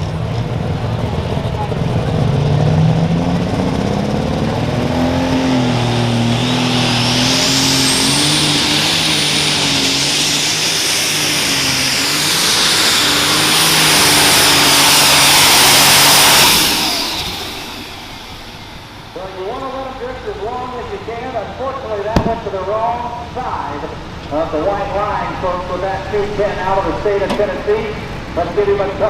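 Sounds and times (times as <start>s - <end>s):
high turbocharger whine: 0.0s - 23.3s
diesel tractor engine full throttle: 0.0s - 29.0s.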